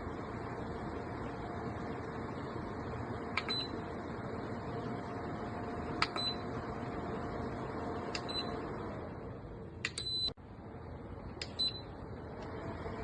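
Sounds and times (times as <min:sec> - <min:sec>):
fan airflow hiss and hum: 0:00.0 - 0:13.0.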